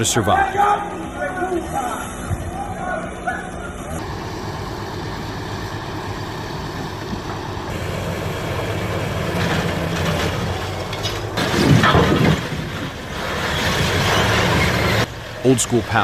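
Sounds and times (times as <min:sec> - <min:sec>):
heavy vehicle engine running: 0:00.8 - 0:16.0.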